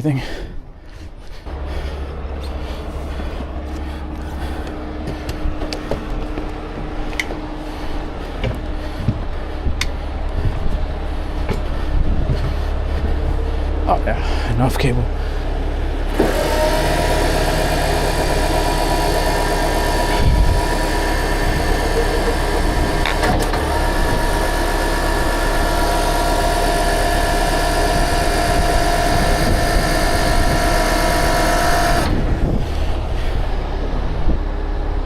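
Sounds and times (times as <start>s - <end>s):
truck engine running under load: 0.0s - 35.0s
hydraulic whine: 1.2s - 13.8s, 15.1s - 35.0s.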